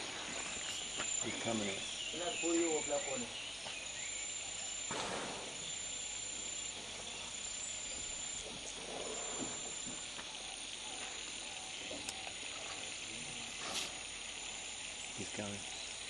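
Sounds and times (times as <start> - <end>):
insect chorus hissing: 0.0 - 16.0
thin high continuous tone: 0.0 - 16.0.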